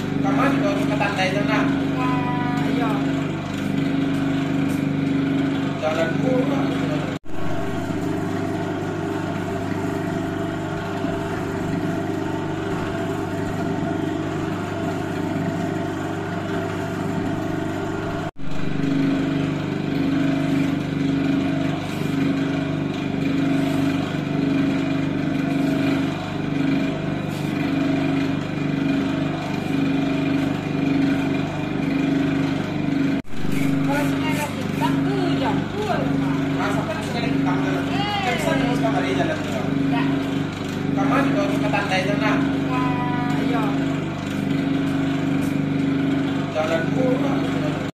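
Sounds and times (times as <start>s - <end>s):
stirring machine motor humming: 0.0s - 47.9s.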